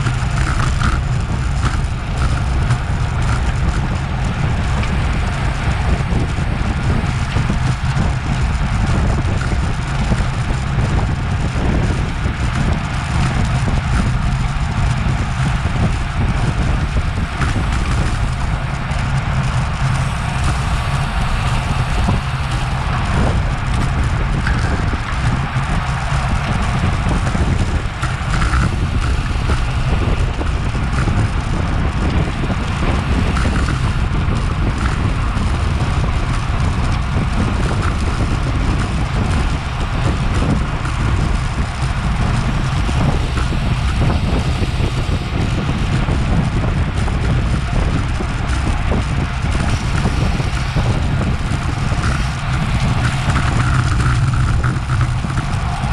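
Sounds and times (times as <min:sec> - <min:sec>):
tyre road noise: 0:00.0 - 0:55.9
wind rumble on microphone: 0:00.0 - 0:55.9.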